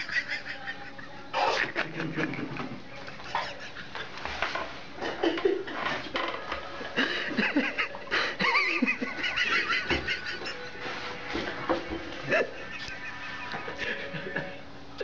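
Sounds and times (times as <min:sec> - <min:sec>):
people laughing: 0:00.0 - 0:04.4, 0:06.8 - 0:14.6.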